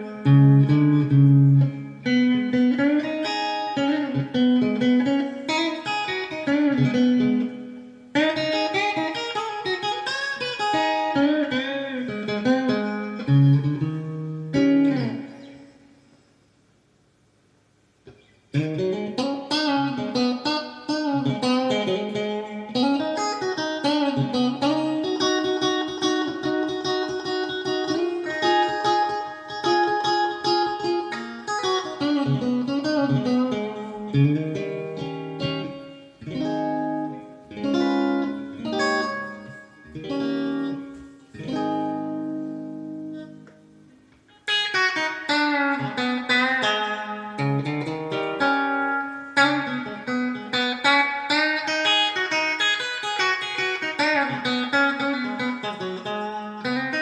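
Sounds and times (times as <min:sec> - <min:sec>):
electric guitar lead lines: 0:00.0 - 0:16.6, 0:18.0 - 0:57.0.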